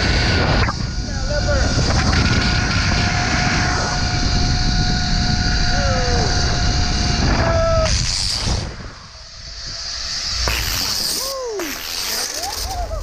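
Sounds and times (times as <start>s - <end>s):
wind rush on microphone: 0.0s - 11.6s
zip line trolley whine: 0.0s - 13.0s.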